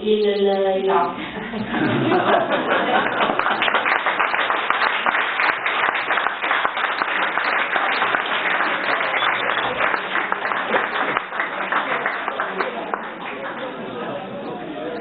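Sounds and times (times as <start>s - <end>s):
audience applause: 1.6s - 15.0s.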